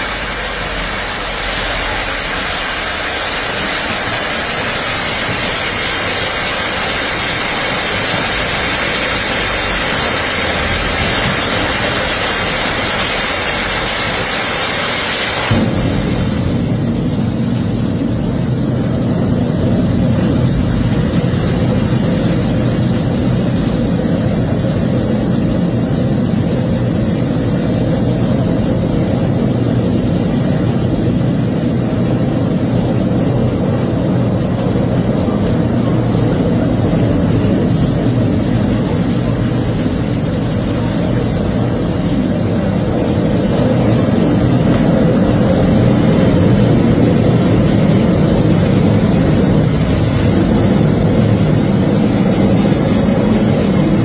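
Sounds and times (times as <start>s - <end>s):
battery fire venting hiss: 0.0s - 54.0s
deep steady rumble: 0.0s - 54.0s.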